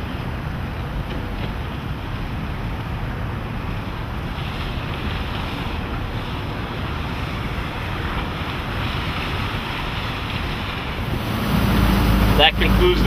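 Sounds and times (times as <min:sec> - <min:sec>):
motorboat running: 0:00.0 - 0:13.0
rushing water: 0:00.0 - 0:13.0
wind buffeting microphone: 0:00.0 - 0:13.0.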